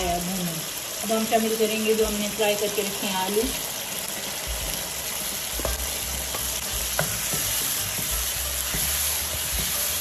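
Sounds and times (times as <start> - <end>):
sizzling in hot oil: 0.0 - 10.0.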